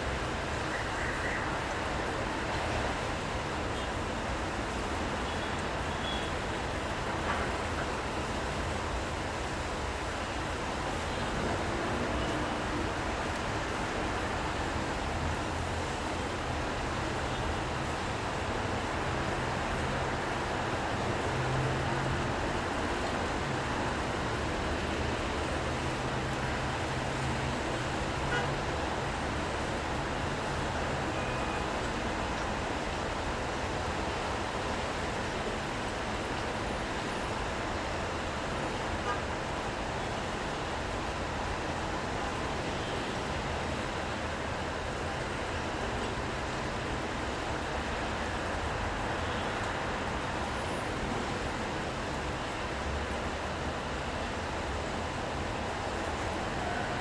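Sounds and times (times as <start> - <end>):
passing traffic: 0.0 - 57.0
rain hiss: 0.0 - 57.0.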